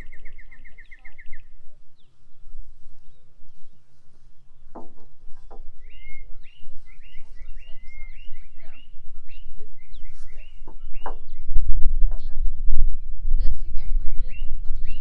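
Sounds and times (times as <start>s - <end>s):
bird chirping: 0.0s - 15.0s
low rumble: 0.0s - 15.0s.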